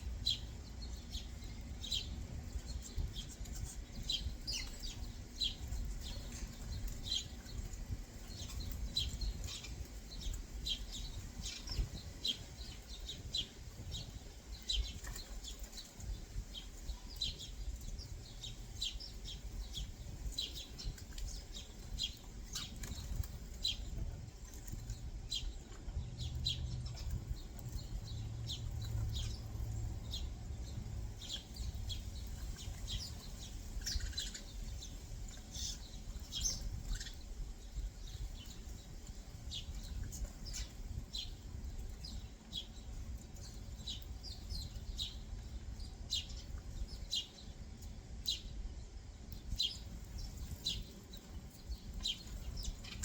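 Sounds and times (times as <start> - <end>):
low background rumble: 0.0 - 53.0
songbirds chirping: 0.0 - 53.0.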